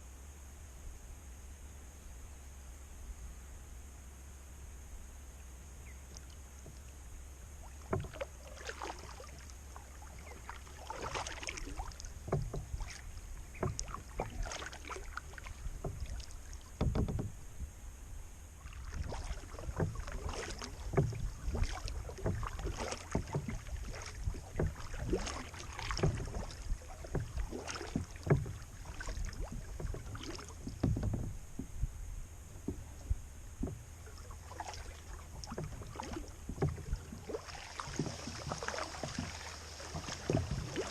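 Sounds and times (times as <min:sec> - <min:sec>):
paddle splashing water: 0:05.8 - 0:40.9.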